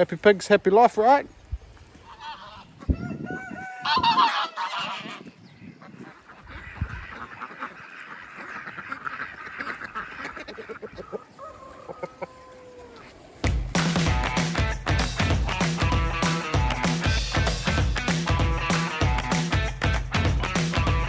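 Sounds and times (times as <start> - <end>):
farmyard animals calling: 1.9 - 13.4, 14.0 - 21.0.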